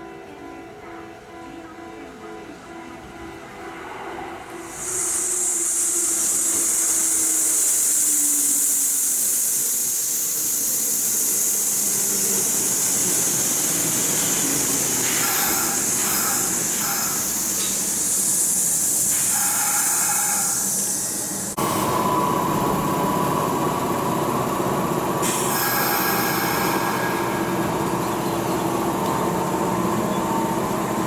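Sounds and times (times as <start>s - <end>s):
train wheels hissing on rails: 4.4s - 23.9s, 25.1s - 31.0s
train motor whine: 4.4s - 31.0s.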